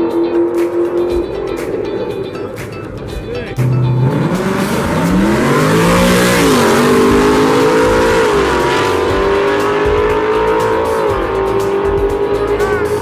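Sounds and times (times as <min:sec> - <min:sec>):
cars accelerating hard: 0:00.0 - 0:13.0.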